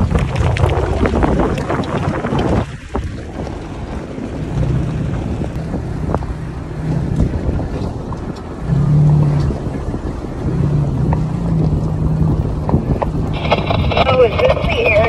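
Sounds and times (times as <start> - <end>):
vehicle engine and tyres drone: 0.0 - 15.0
wind buffeting microphone: 0.0 - 15.0.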